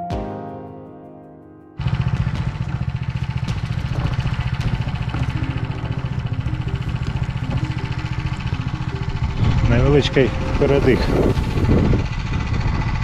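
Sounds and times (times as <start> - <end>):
tractor engine idling: 1.8 - 13.0.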